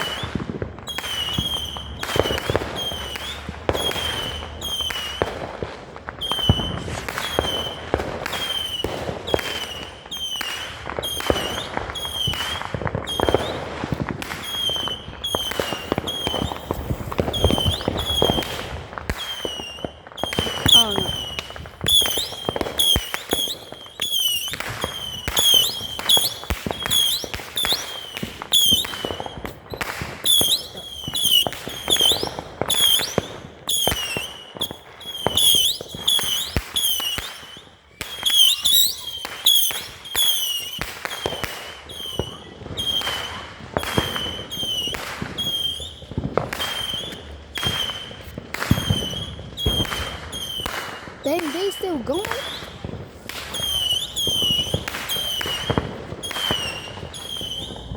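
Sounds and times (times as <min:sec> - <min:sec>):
firework shots whistling and popping: 0:00.0 - 0:57.9.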